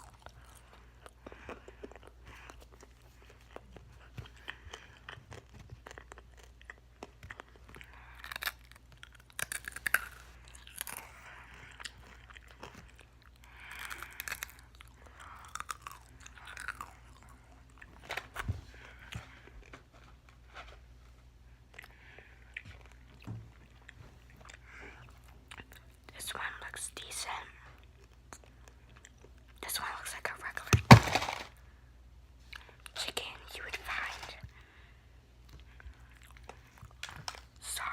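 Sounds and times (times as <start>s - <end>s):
chewing crispy chicken: 0.0s - 20.4s, 21.6s - 30.0s, 35.4s - 37.9s.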